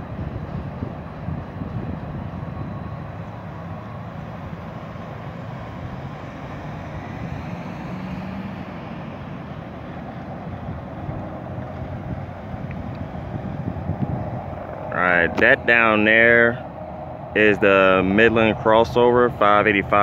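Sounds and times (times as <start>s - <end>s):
distant freight train rumbling: 0.0s - 20.0s.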